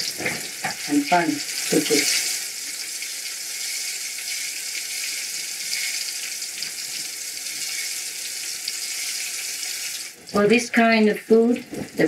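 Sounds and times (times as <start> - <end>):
deep-frying sizzle with crackles: 0.0 - 12.0.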